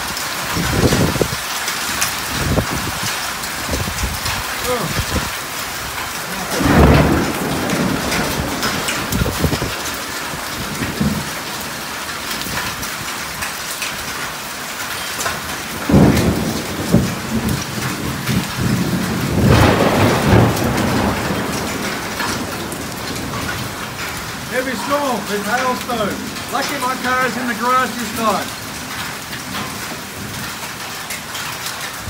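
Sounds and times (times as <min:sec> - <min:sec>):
thunder rumbling: 0:00.0 - 0:14.2, 0:15.4 - 0:32.0
heavy rain and hail falling: 0:00.0 - 0:32.0.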